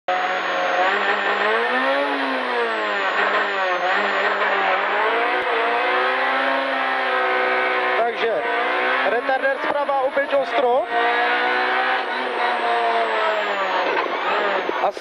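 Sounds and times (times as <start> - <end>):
rally car engine revving: 0.1 - 15.0.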